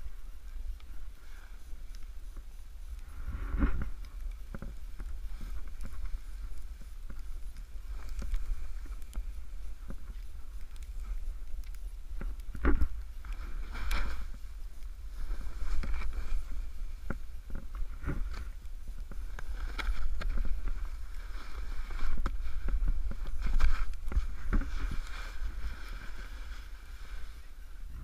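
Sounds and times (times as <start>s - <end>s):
snowboard swishing through snow: 0.0s - 28.0s
wind rumbling on microphone: 0.0s - 28.0s.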